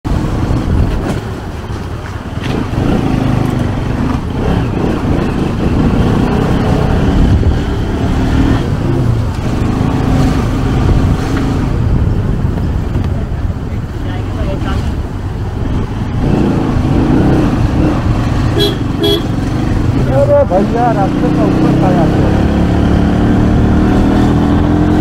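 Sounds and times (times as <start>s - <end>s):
vehicle driving slowly: 0.1s - 25.0s.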